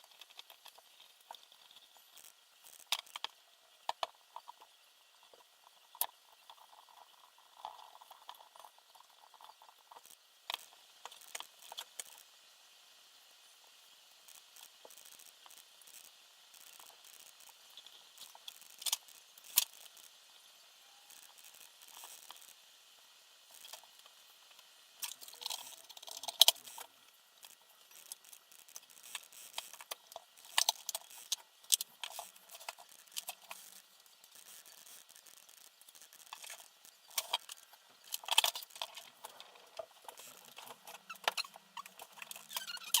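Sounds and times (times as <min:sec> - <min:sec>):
small parts clicking and rattling: 0:00.0 - 0:12.4, 0:13.2 - 0:43.0.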